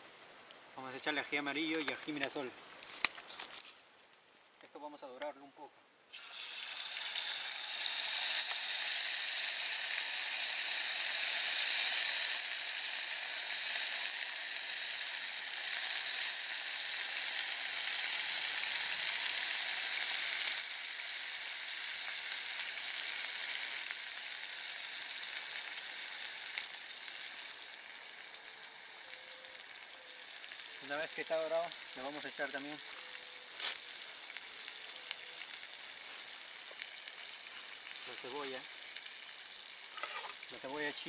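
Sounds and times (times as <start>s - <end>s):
peppers sizzling in hot oil: 6.1s - 41.0s.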